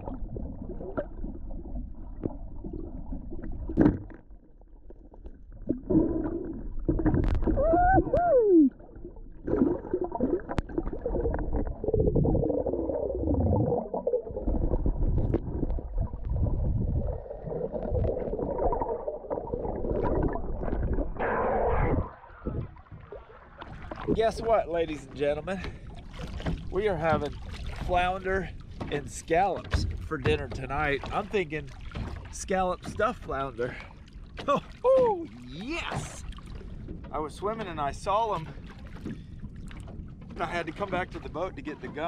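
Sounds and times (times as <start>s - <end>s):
underwater water sloshing and gurgling: 0.0s - 42.0s.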